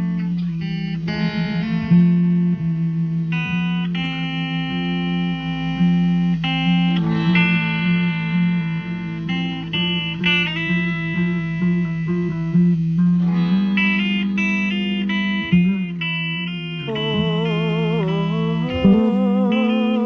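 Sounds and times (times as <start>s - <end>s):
instrumental guitar music: 0.0s - 20.0s.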